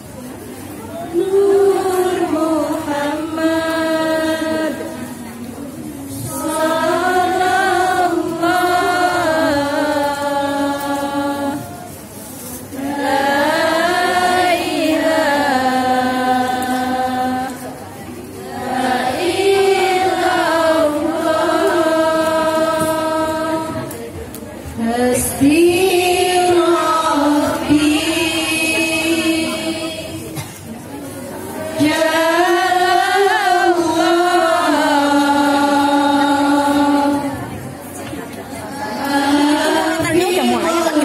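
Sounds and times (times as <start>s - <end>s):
women chanting devotional song: 0.5s - 30.5s, 31.2s - 41.0s.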